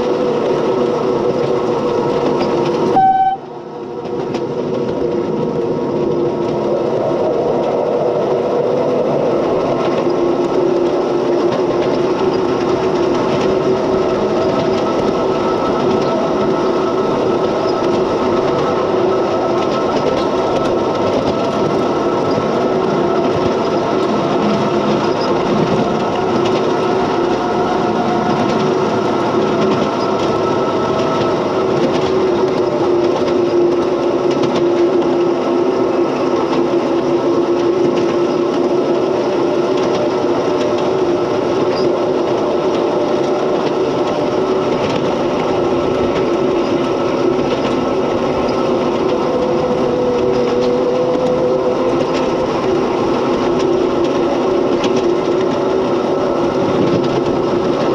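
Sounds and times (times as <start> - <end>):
locomotive drive hum and whine: 0.0 - 57.9
wheels rattling on rails: 0.0 - 57.9.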